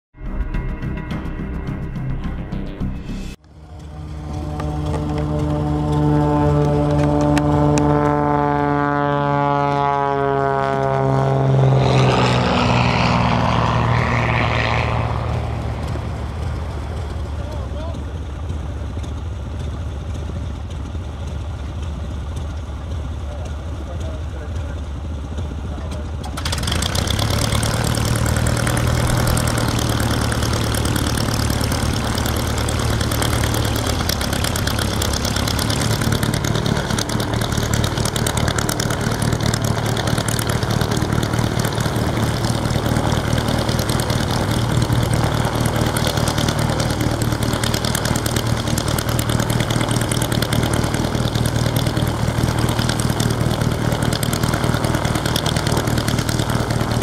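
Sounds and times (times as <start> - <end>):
aero engine running: 0.1 - 57.0
low engine hum: 0.2 - 57.0.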